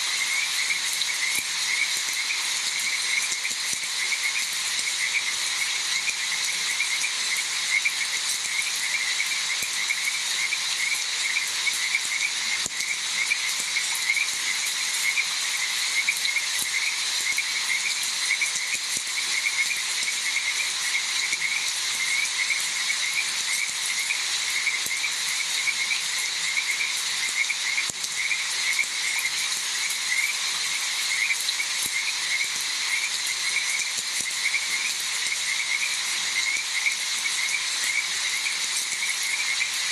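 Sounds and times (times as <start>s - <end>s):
frogs calling: 0.0s - 39.9s
high insect drone: 0.0s - 39.9s
rain hiss: 0.0s - 39.9s.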